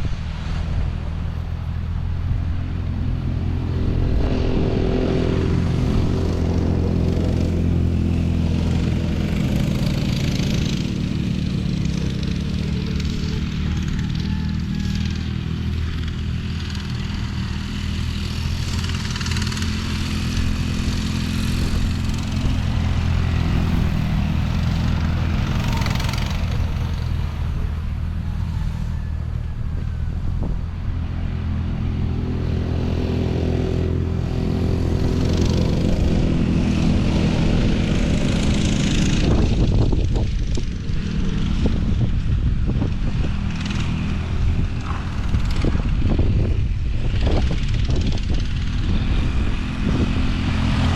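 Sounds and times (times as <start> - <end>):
small vehicle engine running: 0.0 - 50.9.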